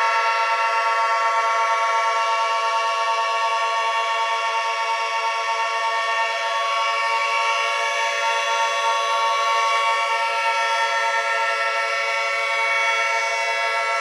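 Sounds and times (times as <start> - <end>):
many sirens sounding: 0.0 - 14.0.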